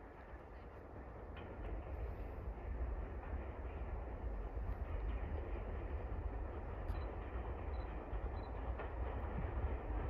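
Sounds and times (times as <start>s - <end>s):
distant steam locomotive rumble: 0.0s - 10.0s.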